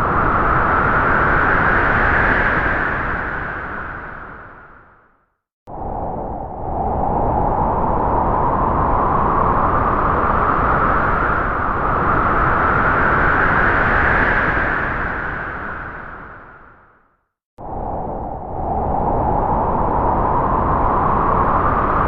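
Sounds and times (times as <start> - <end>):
ghostly wind-like howl: 0.0 - 5.1, 5.7 - 17.0, 17.6 - 22.0.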